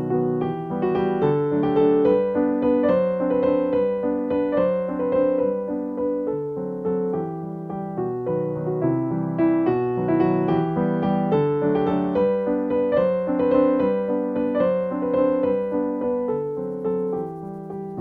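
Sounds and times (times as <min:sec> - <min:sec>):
piano-like keyboard music: 0:00.0 - 0:18.0.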